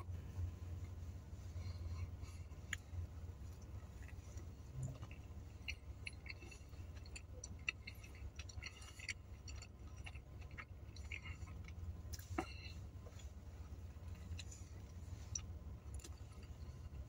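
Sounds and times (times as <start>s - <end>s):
low hum: 0.0s - 17.0s
chewing: 1.6s - 17.0s.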